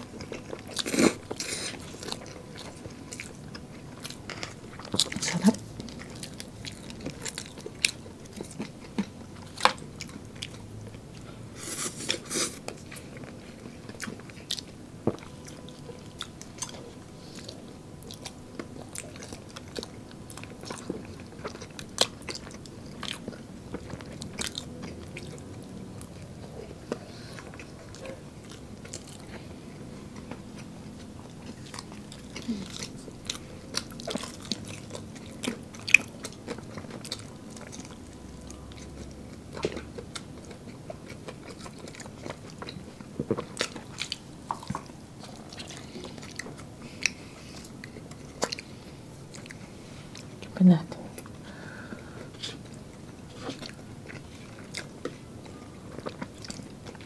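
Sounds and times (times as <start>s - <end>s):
people chewing crispy food: 0.0s - 57.0s.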